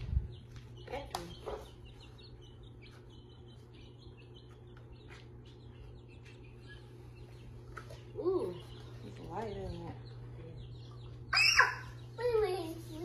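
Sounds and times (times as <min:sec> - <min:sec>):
baby chicks peeping: 0:00.0 - 0:13.0.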